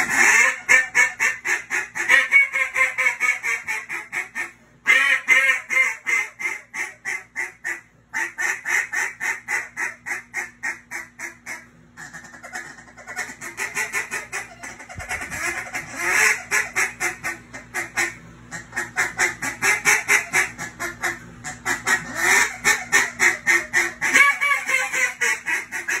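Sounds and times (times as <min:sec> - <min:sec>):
duck call quacking: 0:00.0 - 0:26.0.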